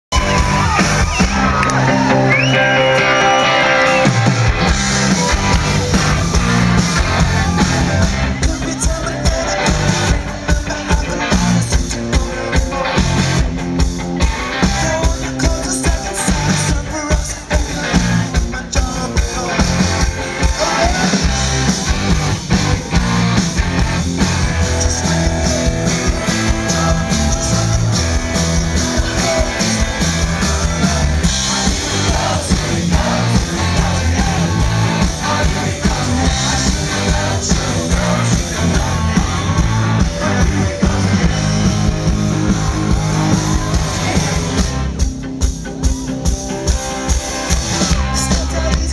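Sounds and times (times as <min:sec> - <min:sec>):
live rock band playing: 0:00.0 - 0:48.9.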